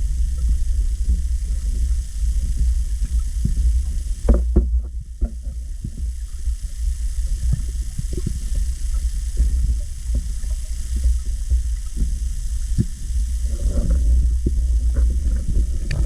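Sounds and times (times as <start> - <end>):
underwater rumble of moving water: 0.0 - 16.0.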